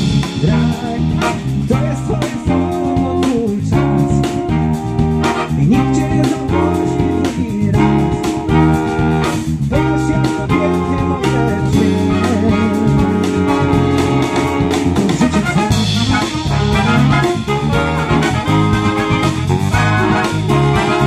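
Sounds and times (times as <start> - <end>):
big band playing: 0.0 - 21.0.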